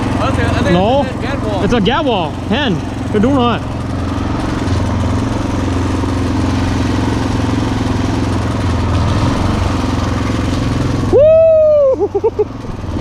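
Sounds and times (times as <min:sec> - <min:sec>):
motor idling hum: 0:00.0 - 0:13.0.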